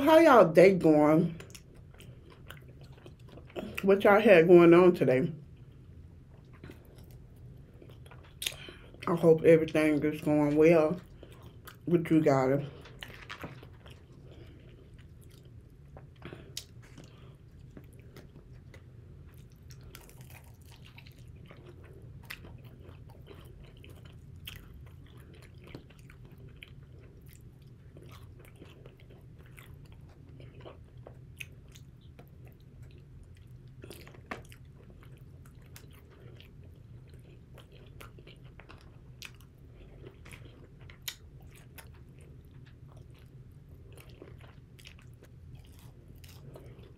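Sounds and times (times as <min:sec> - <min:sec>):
low steady hum: 0:00.0 - 0:46.9
person chewing crunchy food: 0:01.4 - 0:03.8, 0:05.5 - 0:09.1, 0:11.0 - 0:11.9, 0:12.7 - 0:46.9.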